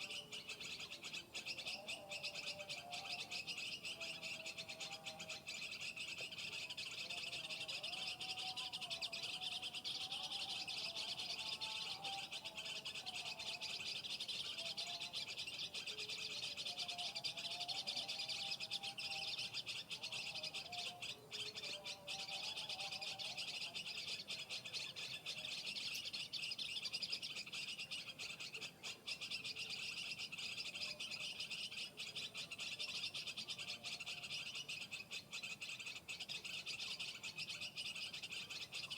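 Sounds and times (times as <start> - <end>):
birds chirping: 0.0 - 38.9
wavering lower calls: 0.0 - 38.9.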